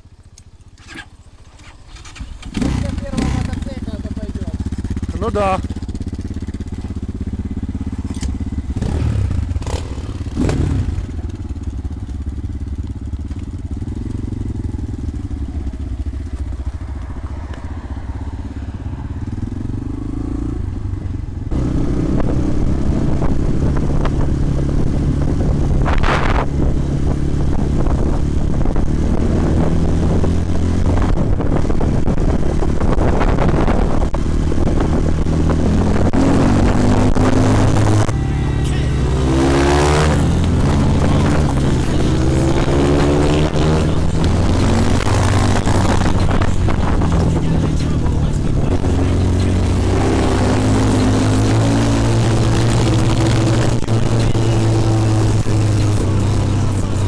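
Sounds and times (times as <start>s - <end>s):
motorcycle engines running: 0.0s - 57.0s.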